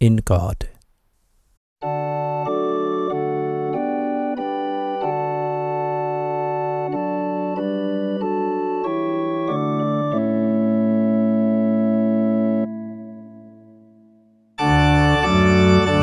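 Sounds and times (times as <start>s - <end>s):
organ playing hymn chords: 1.8s - 16.0s.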